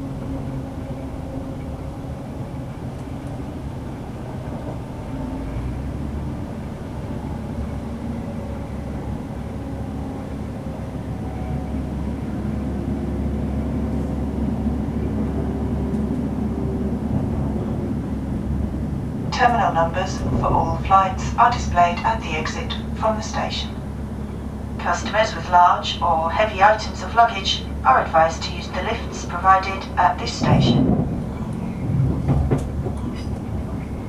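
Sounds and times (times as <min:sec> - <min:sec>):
diesel train rumble: 0:00.0 - 0:34.0.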